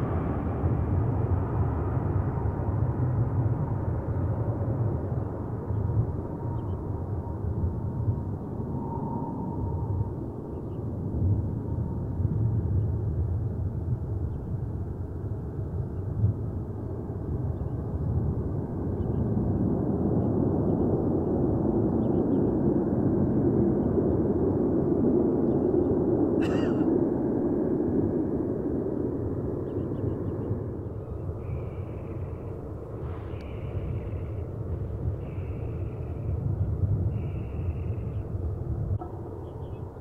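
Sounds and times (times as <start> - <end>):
distant jet engine rumble: 0.0 - 40.0.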